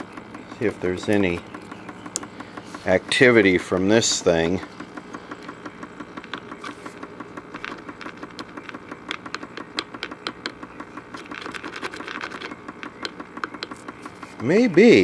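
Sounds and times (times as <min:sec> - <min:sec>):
crackling clicks: 0:00.0 - 0:14.2
low radio hum: 0:00.0 - 0:15.0.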